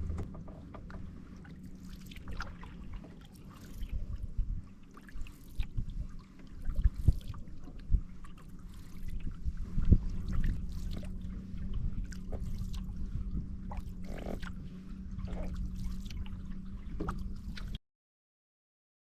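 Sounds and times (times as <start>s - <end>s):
low rumble: 0.0s - 3.1s, 3.8s - 4.8s, 5.6s - 17.8s.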